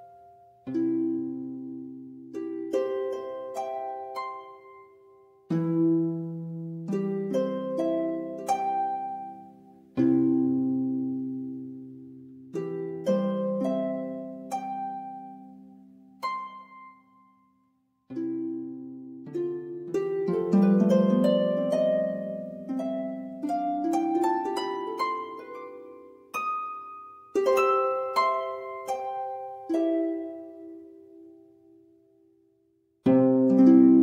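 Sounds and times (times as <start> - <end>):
plucked string music: 0.0 - 17.5, 18.1 - 31.7, 33.0 - 34.0.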